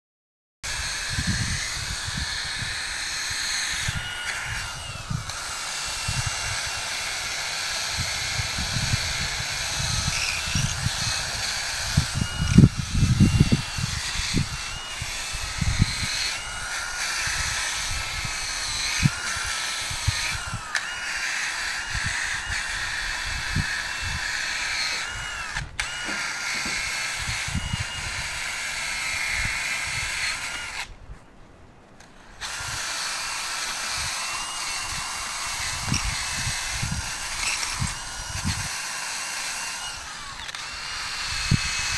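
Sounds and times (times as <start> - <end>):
drill wire brush scrubbing metal: 0.6 - 30.9, 32.2 - 41.9.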